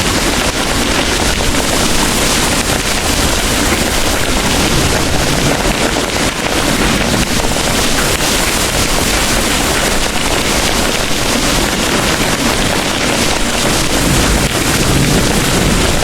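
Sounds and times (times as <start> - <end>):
distant thunder rumble: 0.0 - 16.0
heavy rain pouring: 0.0 - 16.0.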